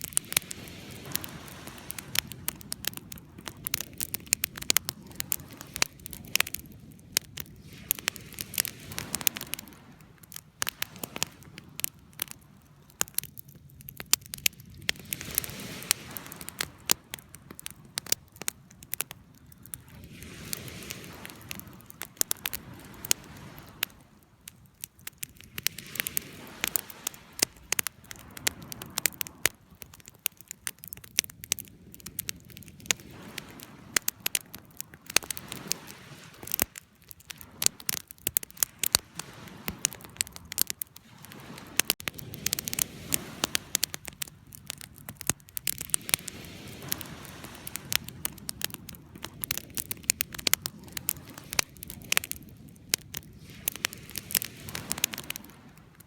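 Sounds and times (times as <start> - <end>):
campfire crackling and popping: 0.0 - 56.0
soft fire hiss: 0.0 - 56.0.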